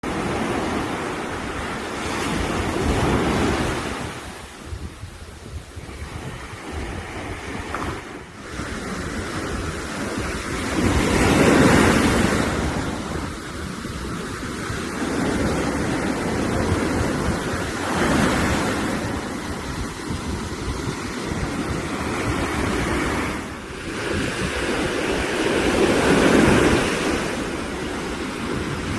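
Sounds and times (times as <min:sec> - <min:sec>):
sea waves breaking on shore: 0:00.0 - 0:28.9.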